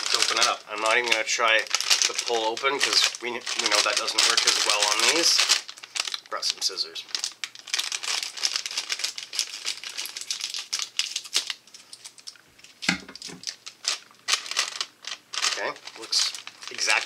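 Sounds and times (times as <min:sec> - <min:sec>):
plastic snack bag crinkling: 0:00.0 - 0:17.0.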